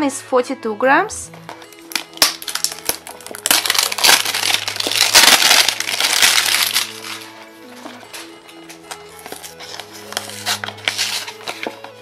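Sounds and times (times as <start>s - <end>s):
cellophane wrap crinkling: 1.6s - 8.3s, 8.9s - 12.0s.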